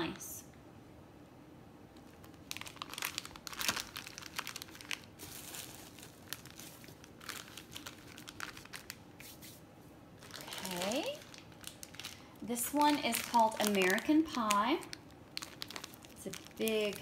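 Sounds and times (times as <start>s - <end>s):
cellophane and tissue crinkling: 2.0s - 9.6s, 10.2s - 17.0s.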